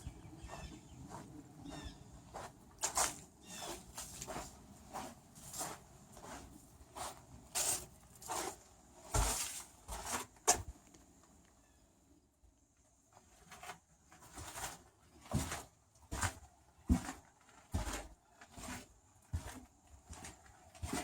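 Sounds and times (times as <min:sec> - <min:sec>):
footsteps crunching on rough ground: 0:00.0 - 0:10.9, 0:13.4 - 0:21.0.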